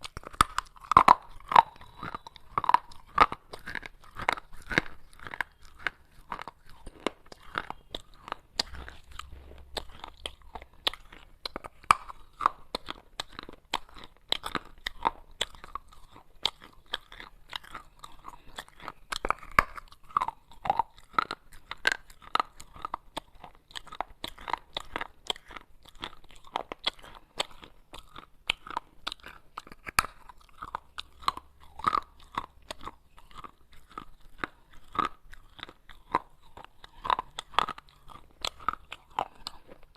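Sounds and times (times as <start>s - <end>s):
clay pieces crunching in mouth: 0.0s - 39.9s.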